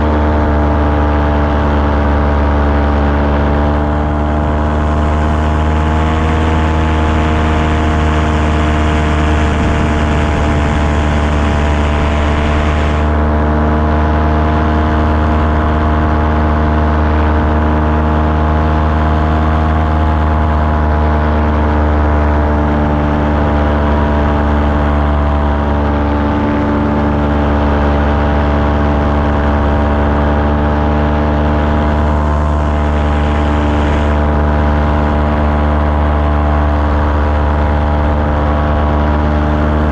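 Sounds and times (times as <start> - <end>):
small aircraft engine running: 0.0 - 39.9
wind and propeller noise: 0.0 - 39.9.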